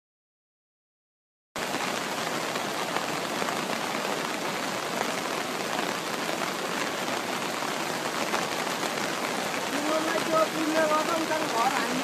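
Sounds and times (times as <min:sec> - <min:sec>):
river rushing in flood: 0:01.6 - 0:12.0.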